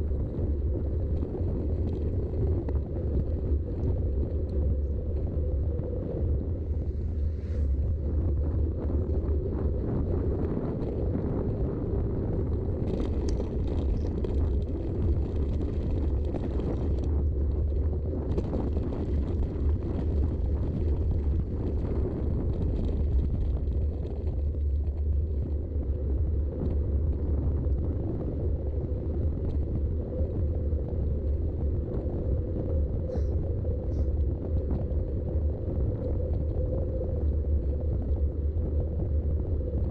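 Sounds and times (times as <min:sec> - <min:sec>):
bike tyres rolling: 0:00.0 - 0:39.9
wind on microphone: 0:00.0 - 0:39.9.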